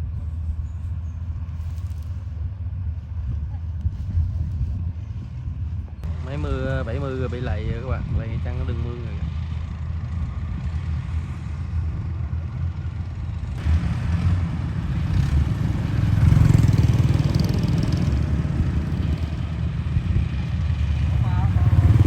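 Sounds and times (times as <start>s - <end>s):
diesel engine low rumble: 0.0s - 22.0s.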